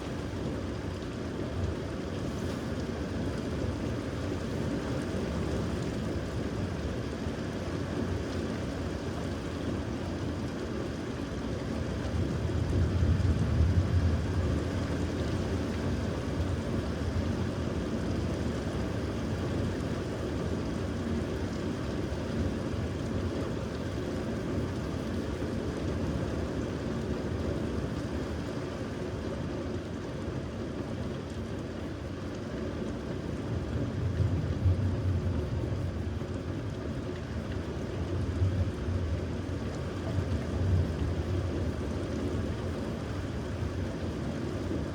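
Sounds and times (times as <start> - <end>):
rain: 0.0 - 44.9
wind: 0.0 - 44.9.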